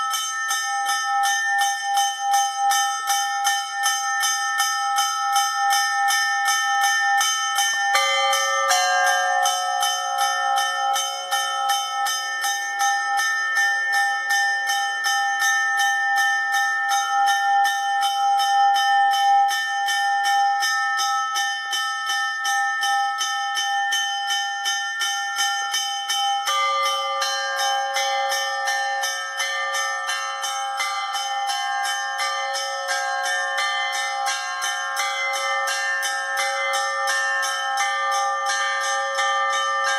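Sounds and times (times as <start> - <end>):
larger bells ringing: 0.0 - 39.9
small high bells struck rapidly: 0.0 - 39.9.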